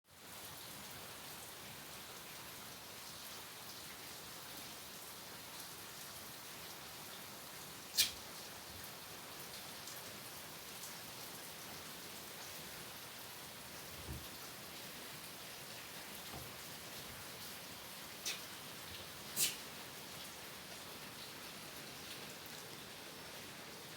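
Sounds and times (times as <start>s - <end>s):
rain on a wooden cabin: 0.0s - 23.9s.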